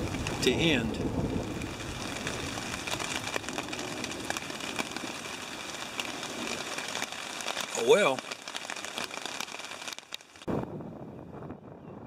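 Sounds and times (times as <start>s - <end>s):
rain pattering on a tarp: 0.0s - 10.5s
wind rumbling on microphone: 0.0s - 12.0s.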